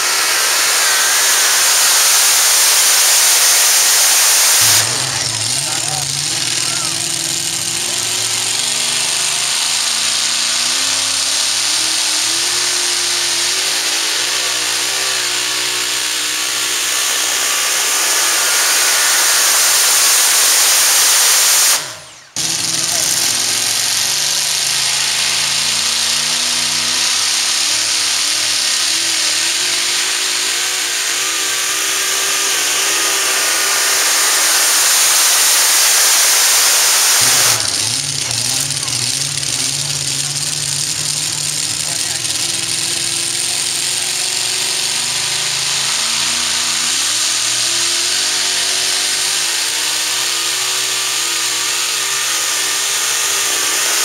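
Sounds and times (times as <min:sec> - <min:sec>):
racing engines screaming: 0:00.0 - 0:54.0.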